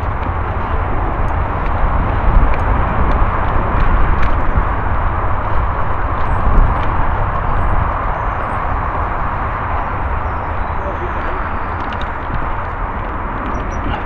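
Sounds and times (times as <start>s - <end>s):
bike rolling over leaves: 0.0s - 14.0s.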